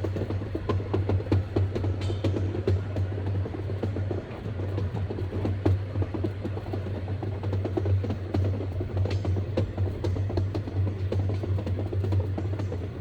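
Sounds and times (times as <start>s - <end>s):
wheels clicking and rattling on track: 0.0s - 13.0s.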